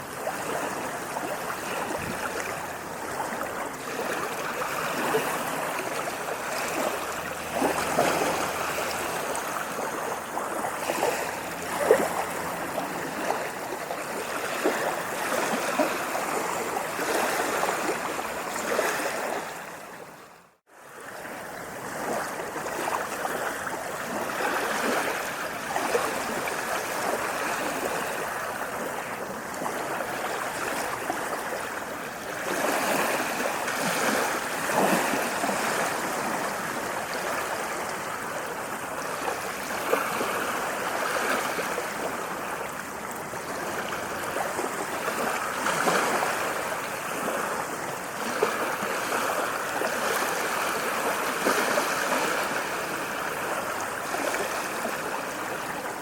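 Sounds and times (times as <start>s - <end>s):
ocean waves rushing: 0.0s - 20.1s, 21.2s - 56.0s.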